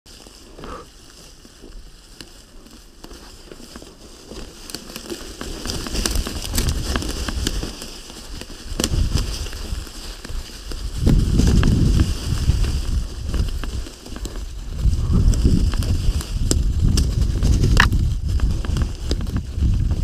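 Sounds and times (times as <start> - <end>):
bike tyres crackling through leaves: 0.1 - 20.0.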